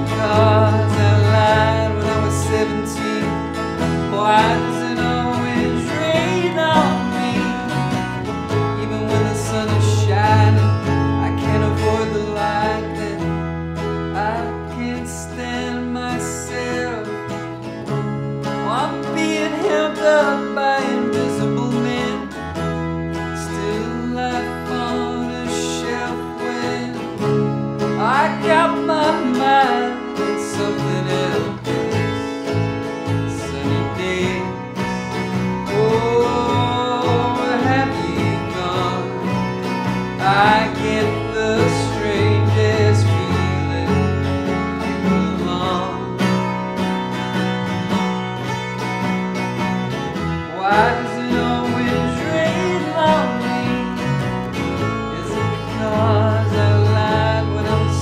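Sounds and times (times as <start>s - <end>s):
man singing: 0.0s - 46.5s, 50.5s - 58.0s
acoustic guitar strummed: 0.0s - 58.0s
electric bass: 0.0s - 58.0s.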